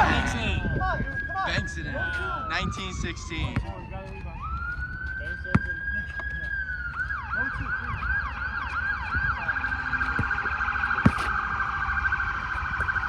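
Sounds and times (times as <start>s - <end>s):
electronic siren yelping: 0.0s - 13.0s.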